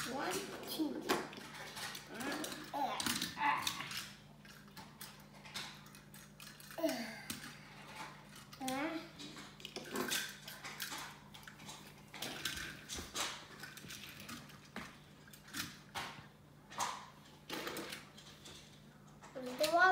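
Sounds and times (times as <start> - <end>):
toy trains clattering on wooden floor: 0.0 - 19.9.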